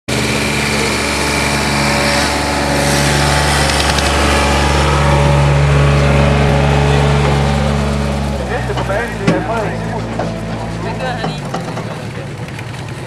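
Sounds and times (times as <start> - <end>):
diesel engine running hard: 0.1 - 13.0.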